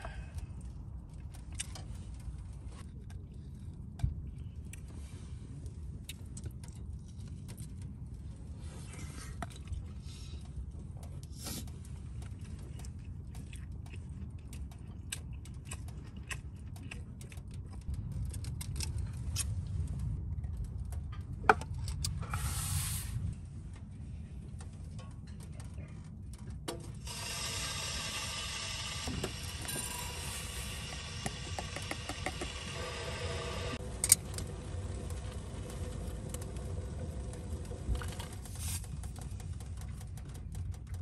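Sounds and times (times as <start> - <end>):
steady low rumble: 0.0 - 41.0.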